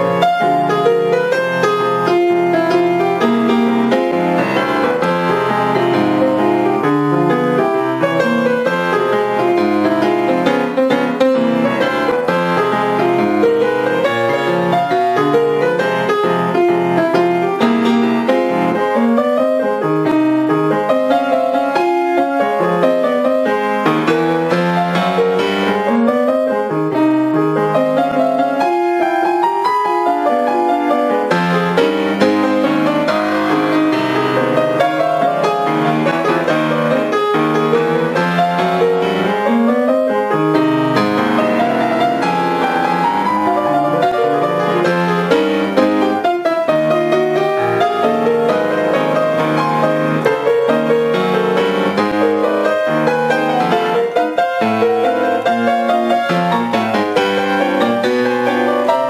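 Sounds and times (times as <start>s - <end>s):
ragtime piano piece: 0.0s - 59.0s.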